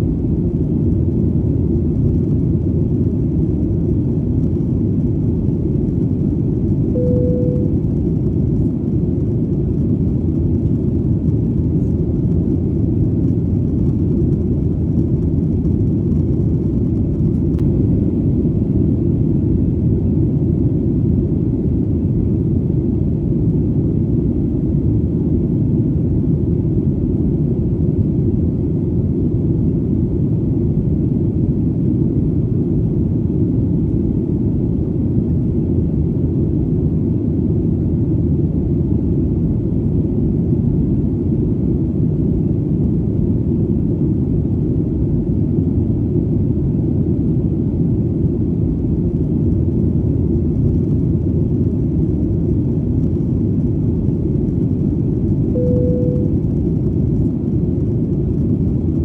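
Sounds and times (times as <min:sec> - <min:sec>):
airplane engine drone: 0:00.0 - 0:59.0.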